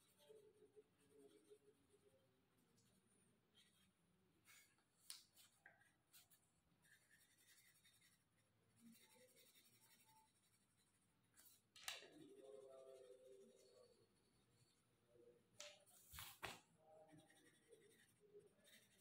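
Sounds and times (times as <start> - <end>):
pencil scratching on paper: 0.0 - 14.9, 15.9 - 19.0.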